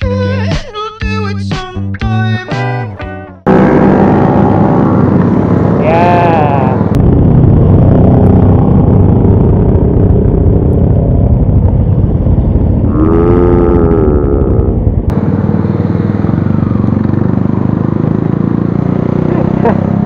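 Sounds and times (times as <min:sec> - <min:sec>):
motorcycle engine running: 0:03.5 - 0:20.0.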